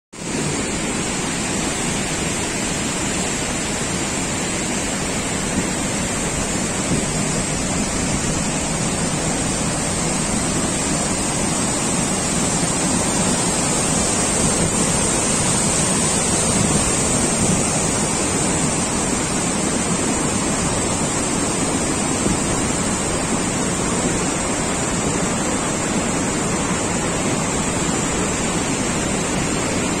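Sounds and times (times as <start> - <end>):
waterfall and stream rushing: 0.2 - 30.0.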